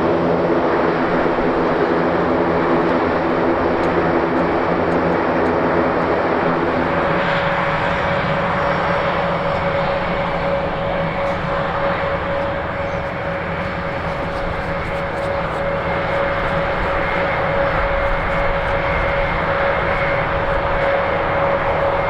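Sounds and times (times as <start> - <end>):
propeller tones: 0.0 - 22.0
steady higher whine: 0.0 - 22.0
turboprop engines running: 0.0 - 22.0.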